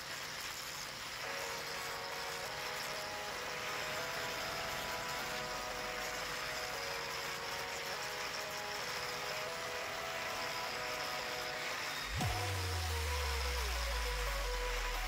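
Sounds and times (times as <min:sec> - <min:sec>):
background music: 0:01.2 - 0:15.0.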